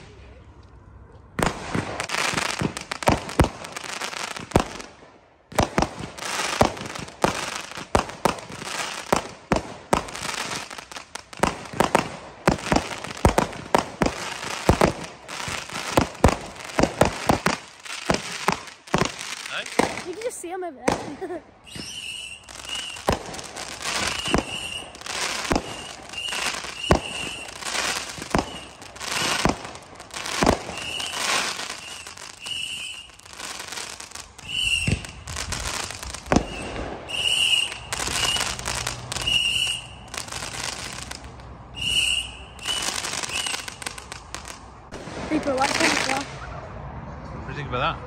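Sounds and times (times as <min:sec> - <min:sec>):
fireworks bangs: 0:01.4 - 0:46.5
fireworks whistles: 0:05.5 - 0:46.5.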